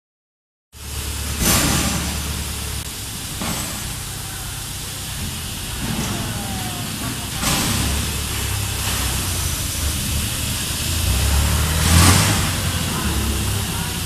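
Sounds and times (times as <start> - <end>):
loud hiss: 0.8 - 14.0
machine hum and rumble: 0.8 - 14.0.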